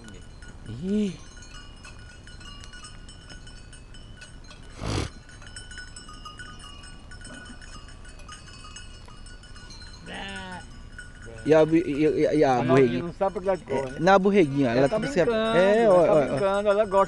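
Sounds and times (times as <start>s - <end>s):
sheep bells clinking: 0.0s - 17.0s.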